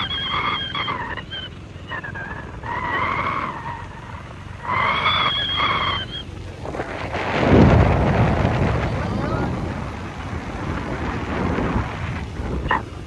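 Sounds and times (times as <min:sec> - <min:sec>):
motorcycle road and wind rumble: 0:00.0 - 0:13.0.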